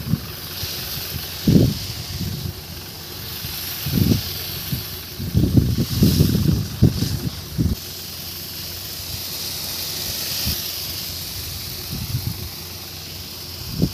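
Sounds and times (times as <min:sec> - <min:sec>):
low rumbles: 0:00.0 - 0:13.9
sprayer hissing: 0:00.0 - 0:13.9.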